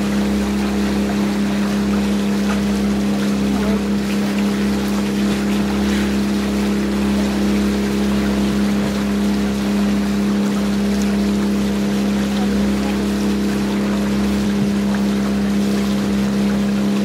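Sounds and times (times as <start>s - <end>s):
boat engine droning: 0.0s - 17.0s
water hissing along hull: 0.0s - 17.0s.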